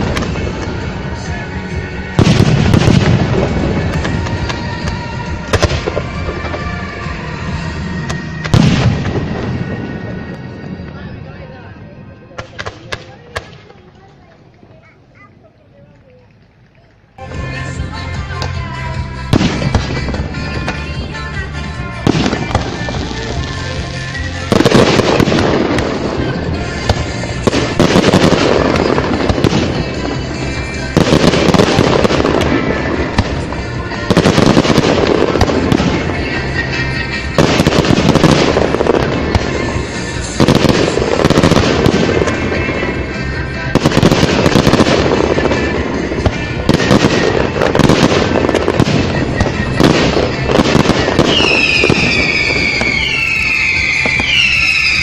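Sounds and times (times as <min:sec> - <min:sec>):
music: 0:00.0 - 0:15.0, 0:17.1 - 0:55.0
fireworks bursting and crackling: 0:00.0 - 0:55.0.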